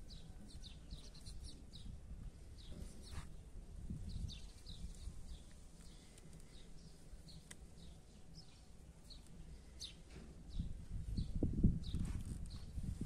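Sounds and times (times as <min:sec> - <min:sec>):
small bird chirping: 0:00.0 - 0:02.0, 0:02.6 - 0:13.0.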